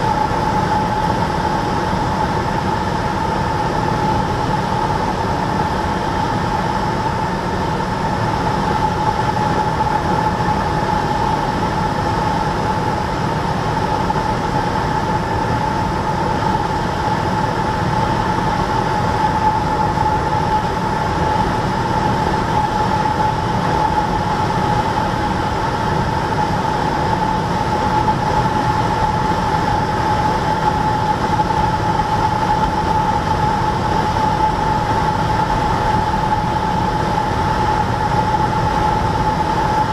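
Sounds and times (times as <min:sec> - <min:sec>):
airplane engine droning in cabin: 0:00.0 - 0:39.9.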